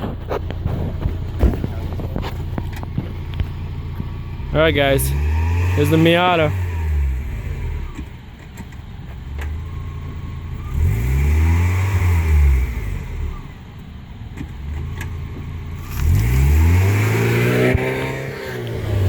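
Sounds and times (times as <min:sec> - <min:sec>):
car engine revving: 0:00.0 - 0:13.8, 0:14.4 - 0:19.0.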